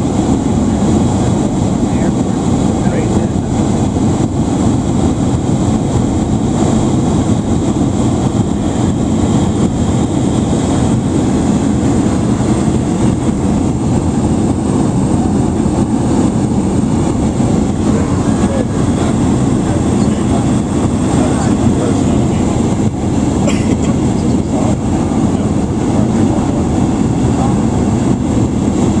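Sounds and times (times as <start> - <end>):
propeller aircraft engine drone: 0.0 - 29.0.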